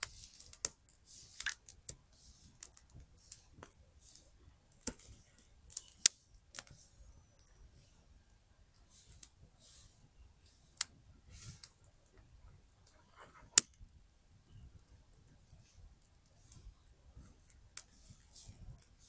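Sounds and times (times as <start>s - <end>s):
soft hissing puffs: 0.0s - 13.6s, 15.4s - 19.0s
wood fire crackling: 0.0s - 19.0s.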